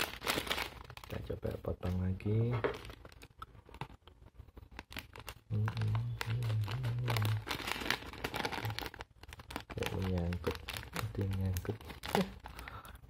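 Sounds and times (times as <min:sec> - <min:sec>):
packet crinkling: 0:00.0 - 0:13.0.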